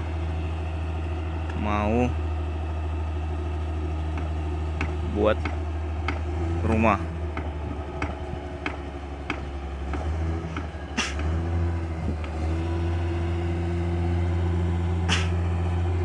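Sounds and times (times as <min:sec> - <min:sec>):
diesel hand tractor engine running: 0:00.0 - 0:16.0.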